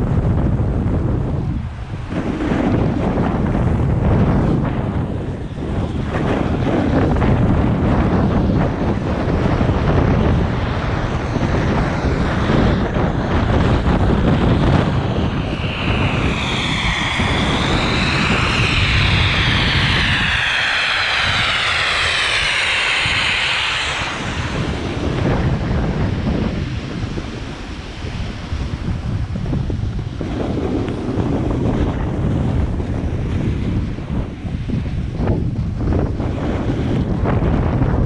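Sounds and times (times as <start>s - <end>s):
wind on microphone: 0.0s - 38.0s.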